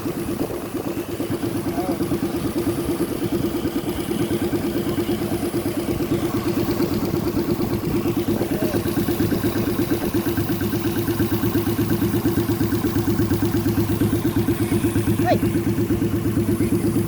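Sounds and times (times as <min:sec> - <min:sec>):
motorcycle idling: 0:00.0 - 0:17.0.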